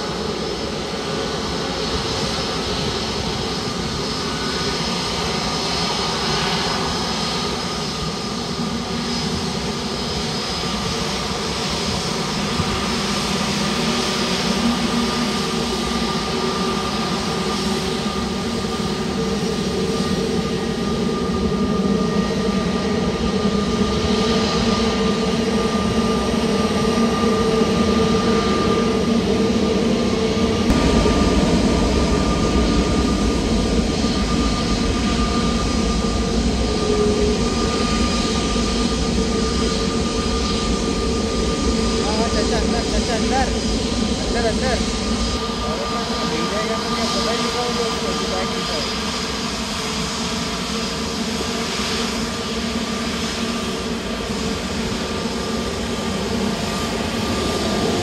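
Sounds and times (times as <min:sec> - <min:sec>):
jet engine high whine: 0:00.0 - 0:58.0
jet engine roar: 0:00.0 - 0:58.0.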